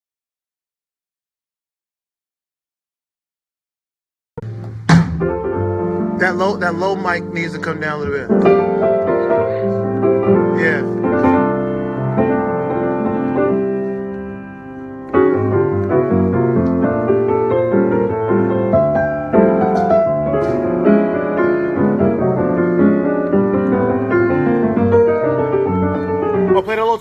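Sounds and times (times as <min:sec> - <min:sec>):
piano playing chords: 0:04.4 - 0:27.0.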